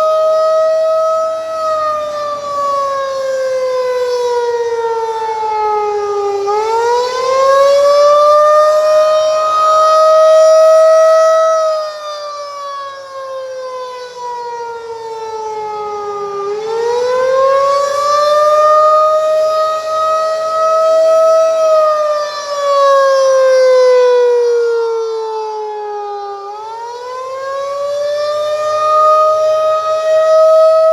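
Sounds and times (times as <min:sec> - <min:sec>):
warning siren wailing: 0:00.0 - 0:30.9.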